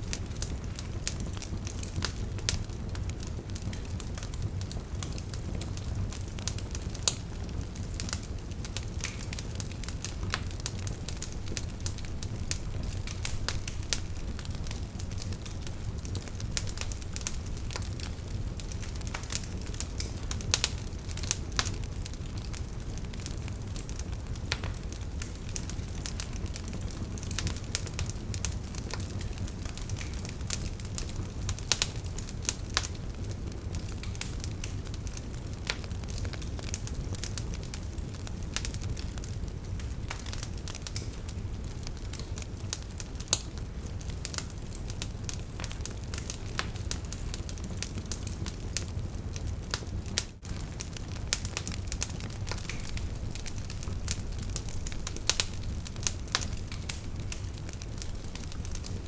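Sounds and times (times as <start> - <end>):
campfire crackling: 0.0 - 59.0
low rumble of flame: 0.0 - 59.0.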